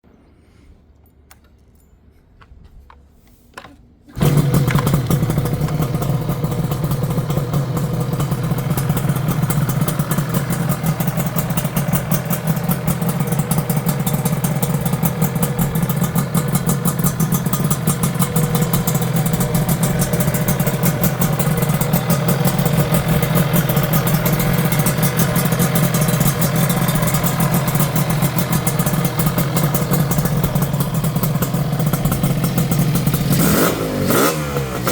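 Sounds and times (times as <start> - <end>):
two-stroke engine starting and running: 4.1 - 34.9.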